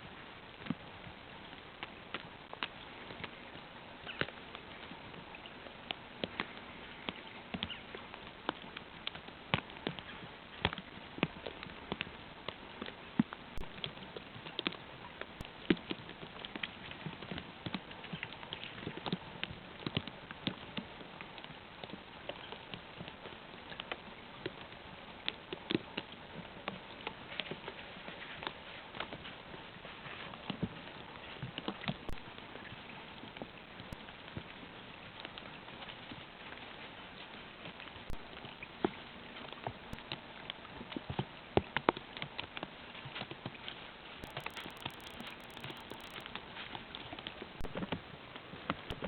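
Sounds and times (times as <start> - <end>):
wet snow dripping on dry leaves: 0.4 - 49.0.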